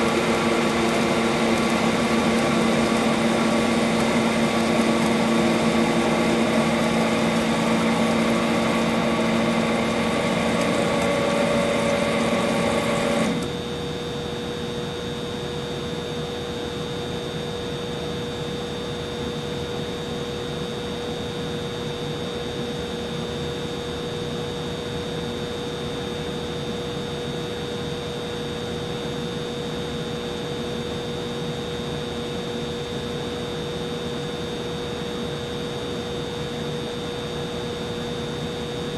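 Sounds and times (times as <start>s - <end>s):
humidifier motor hum: 0.0s - 38.9s.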